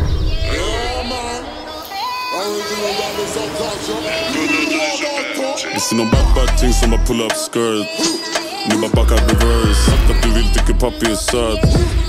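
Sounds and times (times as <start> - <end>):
hip-hop music with bass beat: 0.0 - 12.0
pitch-gliding vocal or synth notes: 0.2 - 11.6.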